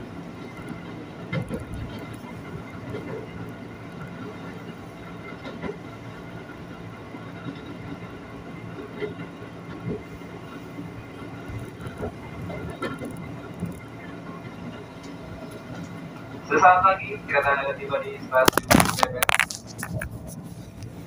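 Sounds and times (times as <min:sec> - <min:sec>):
train running rumble and hum: 0:00.0 - 0:21.0.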